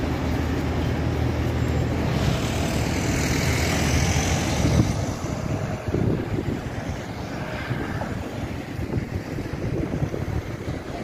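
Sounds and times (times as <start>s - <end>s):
passing vehicle hiss: 0.0s - 11.0s
road traffic rumble: 0.0s - 11.0s.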